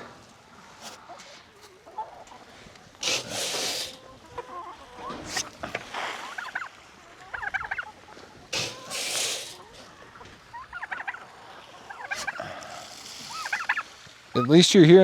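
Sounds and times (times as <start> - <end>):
chickens clucking: 0.6 - 14.9.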